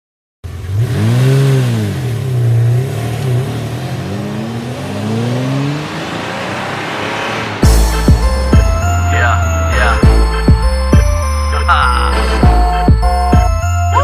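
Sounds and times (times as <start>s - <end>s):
car engine revving: 0.4s - 13.4s.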